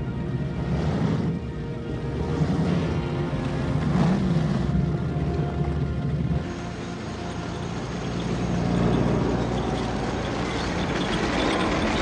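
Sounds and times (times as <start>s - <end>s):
military vehicle engines running: 0.0s - 12.0s.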